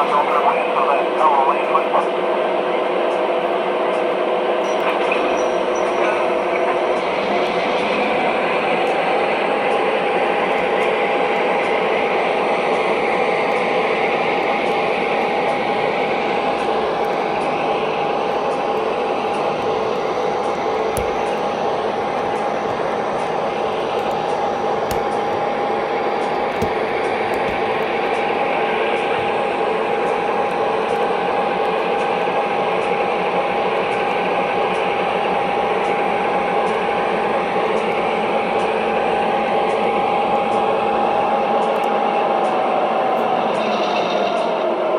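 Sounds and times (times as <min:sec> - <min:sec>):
model locomotive diesel engine sound: 0:00.0 - 0:44.9.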